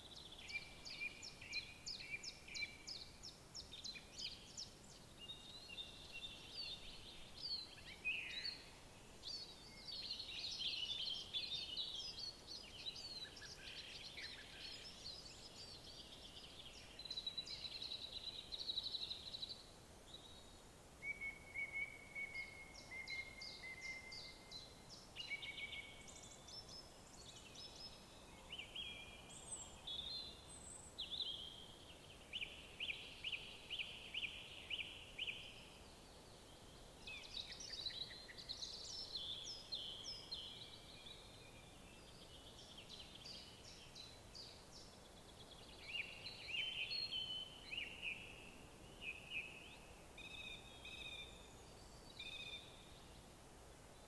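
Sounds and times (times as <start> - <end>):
faint background hiss: 0.0 - 54.0
songbirds singing: 0.0 - 54.0.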